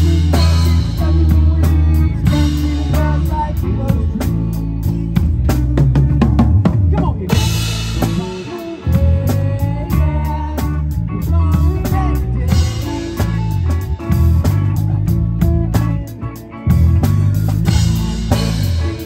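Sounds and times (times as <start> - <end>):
live band music: 0.0 - 19.0.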